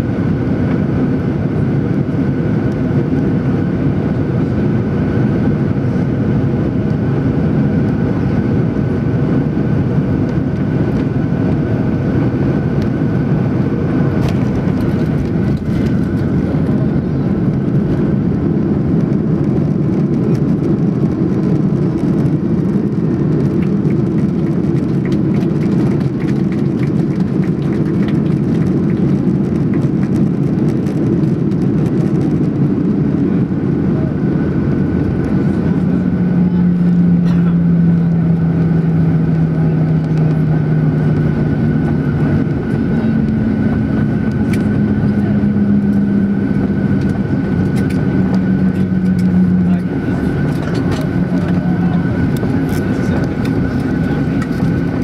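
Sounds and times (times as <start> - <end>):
airliner touchdown on runway: 0.0 - 55.0
jet engine noise with whine: 0.0 - 55.0
low rumble of jet rolling out: 0.0 - 55.0.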